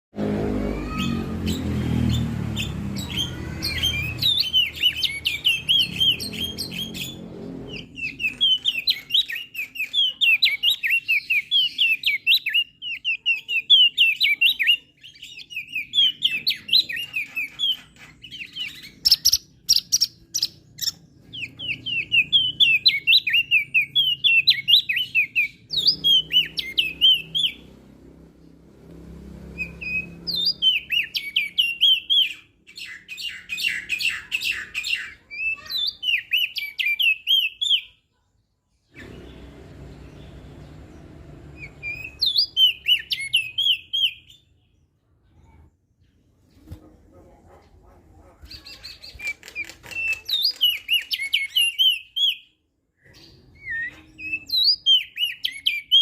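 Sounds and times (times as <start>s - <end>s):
bird warbling song: 0.8s - 28.5s, 29.4s - 38.1s, 38.7s - 56.0s.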